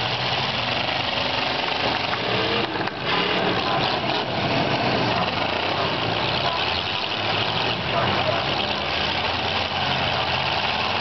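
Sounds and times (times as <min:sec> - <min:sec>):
car engines revving: 0:00.0 - 0:11.0
dense steady noise: 0:00.0 - 0:11.0.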